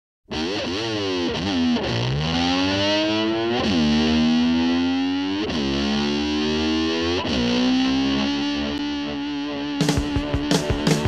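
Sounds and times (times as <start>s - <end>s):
distorted electric slide guitar: 0.3s - 11.0s.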